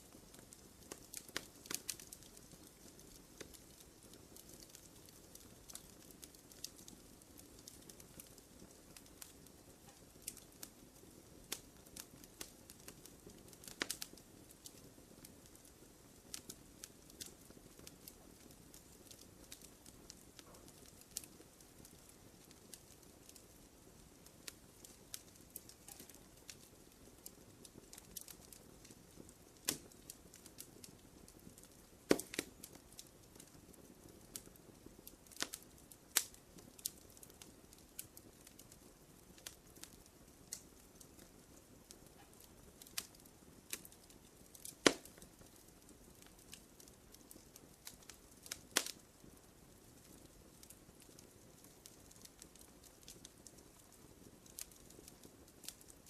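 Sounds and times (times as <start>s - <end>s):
campfire crackling: 0.0s - 56.0s
fire pops and snaps: 0.0s - 56.0s.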